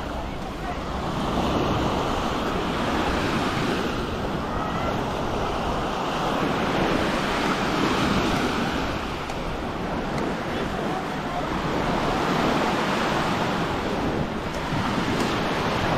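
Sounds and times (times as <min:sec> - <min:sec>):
waves breaking on sandy beach: 0:00.0 - 0:15.9.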